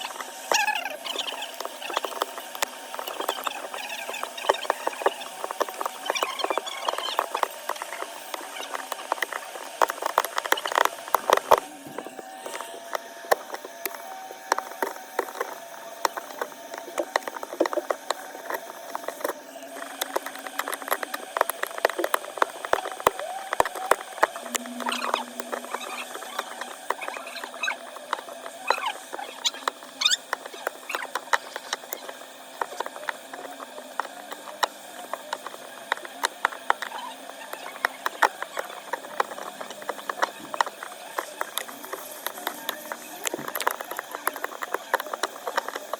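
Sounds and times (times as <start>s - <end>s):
repair tools clicking and scraping: 0.0s - 45.9s.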